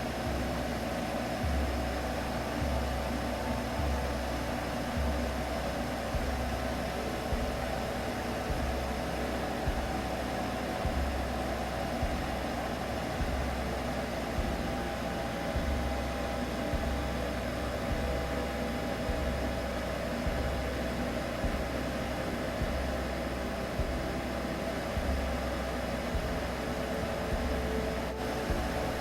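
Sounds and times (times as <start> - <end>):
soft low pulse: 0.0 - 29.0
steady droning hum: 0.0 - 29.0.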